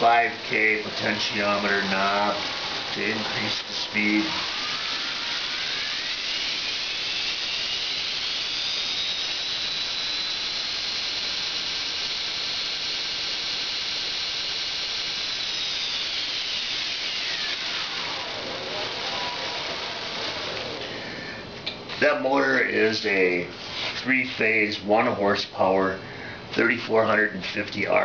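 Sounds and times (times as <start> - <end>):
belt grinder motor whine: 0.0 - 22.8.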